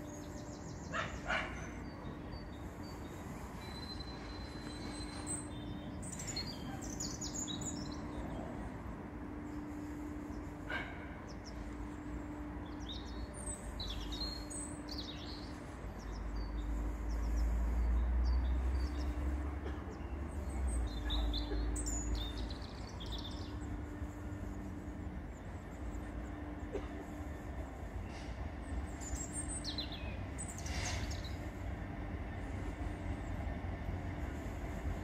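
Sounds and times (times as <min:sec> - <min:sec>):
small birds chirping: 0:00.0 - 0:08.6, 0:11.3 - 0:19.3, 0:19.9 - 0:33.5.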